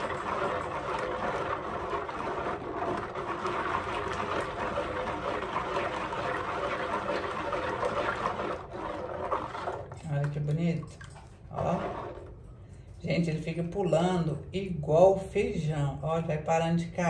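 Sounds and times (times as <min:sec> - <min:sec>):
ladle stirring thick mixture: 0:00.0 - 0:15.6.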